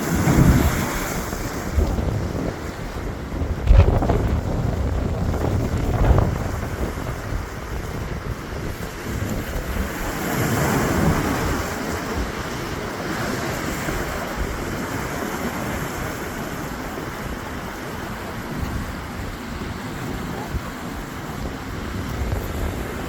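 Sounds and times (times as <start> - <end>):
surf breaking: 0.0 - 23.0
wind buffeting microphone: 0.0 - 23.0.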